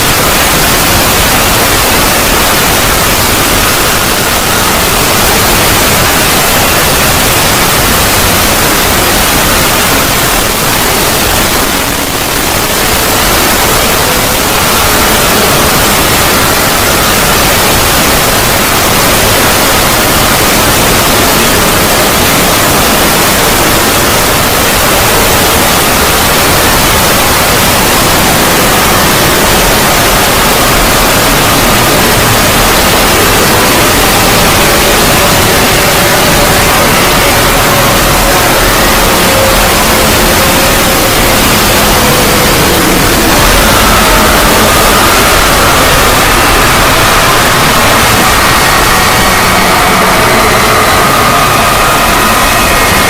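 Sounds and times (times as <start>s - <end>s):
static-like synthesized noise: 0.0s - 53.0s.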